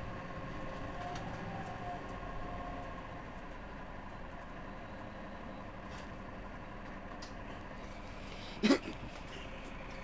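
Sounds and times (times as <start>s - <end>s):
bus engine idling: 0.0s - 10.0s.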